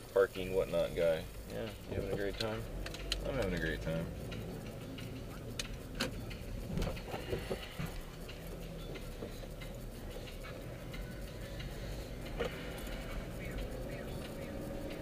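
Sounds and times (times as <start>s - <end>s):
engine and road hum: 0.0s - 15.0s
light clicks and rattles: 0.1s - 15.0s.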